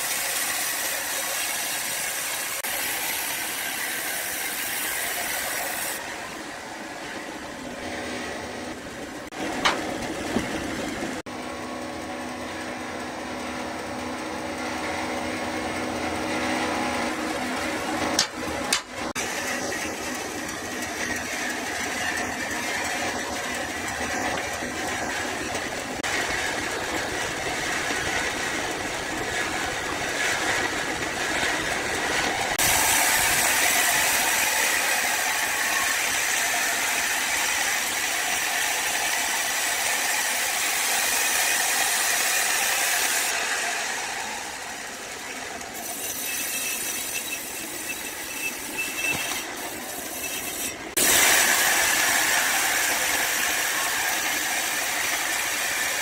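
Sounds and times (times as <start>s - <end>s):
woodworking machinery running: 0.0s - 56.0s.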